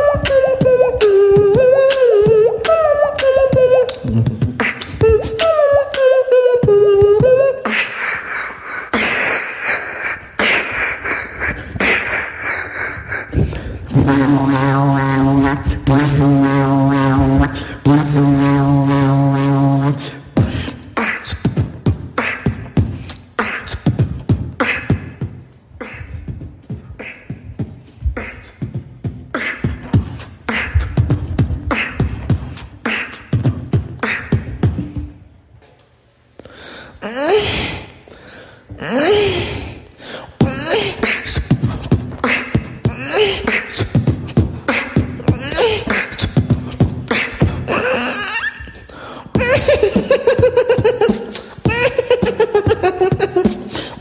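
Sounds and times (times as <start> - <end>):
gliding pitched vocal sounds: 0.0 - 35.2, 38.8 - 54.0
beatboxing beat: 0.0 - 35.5, 36.4 - 54.0.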